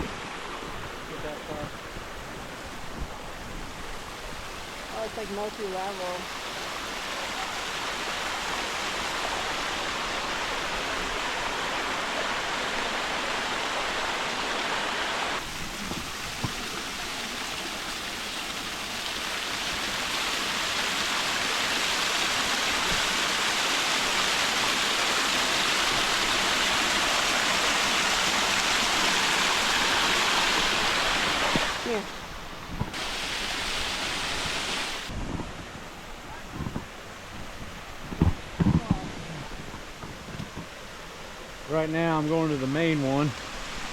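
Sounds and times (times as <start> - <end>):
waterfall rushing: 0.0 - 35.2, 36.0 - 43.9.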